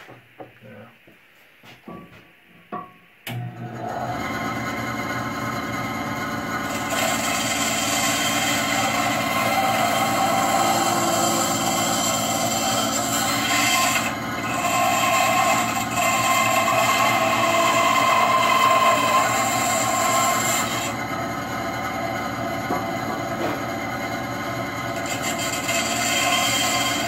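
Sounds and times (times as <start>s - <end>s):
electric power tool cutting wood: 3.3s - 27.0s.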